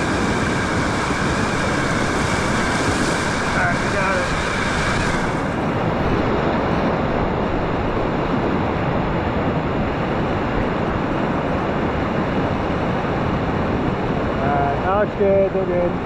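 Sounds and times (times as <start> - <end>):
river rapids roaring: 0.0 - 15.3.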